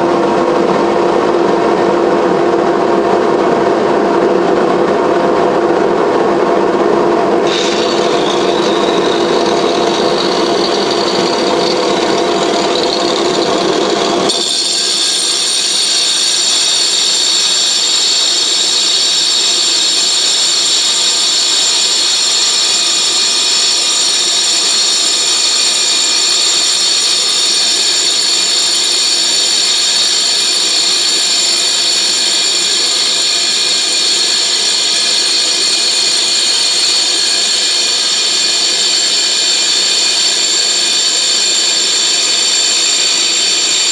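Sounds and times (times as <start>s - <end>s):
angle grinder grinding glass: 7.4s - 43.9s.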